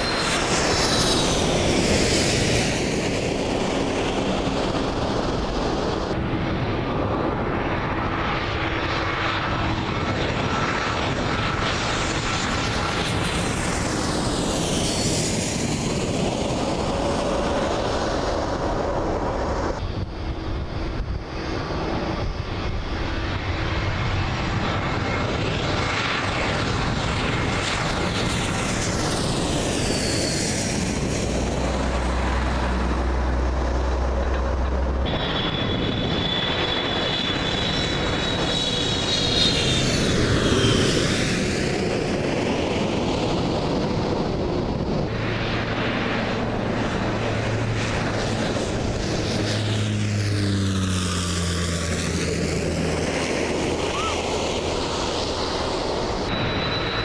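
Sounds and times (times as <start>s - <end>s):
jet airliners passing overhead: 0.0s - 57.0s.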